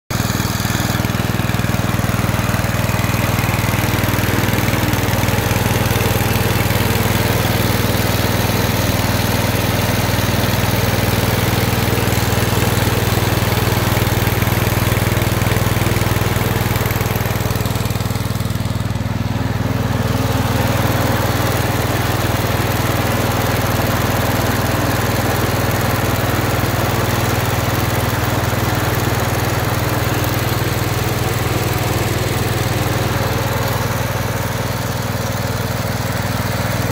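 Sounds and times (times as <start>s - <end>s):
lawn tractor engine running: 0.1s - 36.9s.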